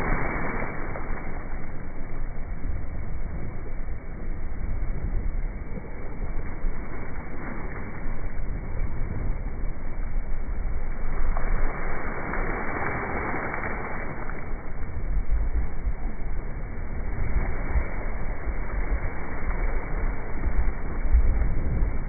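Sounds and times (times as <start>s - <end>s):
water rushing along boat hull: 0.0s - 22.0s
wind buffeting microphone: 0.0s - 22.0s.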